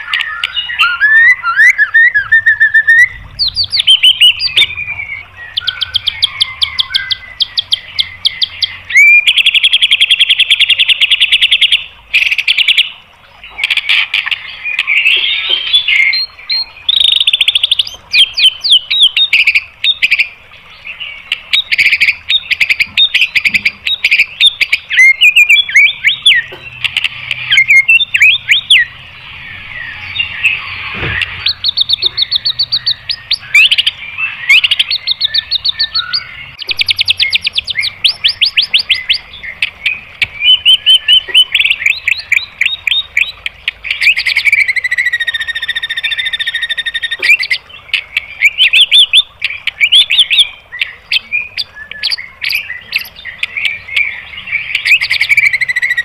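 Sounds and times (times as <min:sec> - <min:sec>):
bird singing sharp rapid notes: 0:00.0 - 0:56.0.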